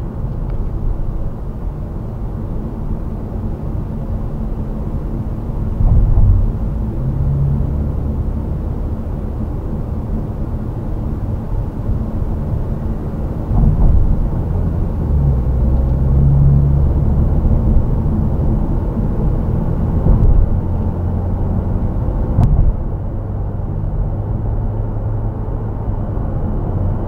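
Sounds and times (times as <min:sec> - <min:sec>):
car engine drone: 0:00.0 - 0:27.0
road and tyre rumble: 0:00.0 - 0:27.0.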